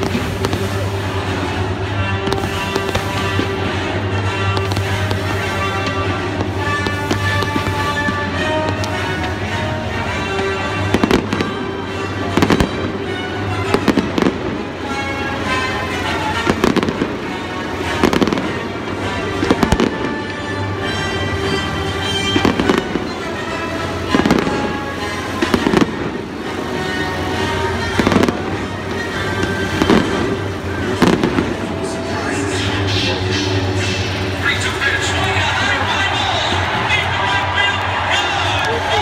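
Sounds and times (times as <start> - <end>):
fireworks banging: 0.0 - 39.0
music: 0.0 - 39.0.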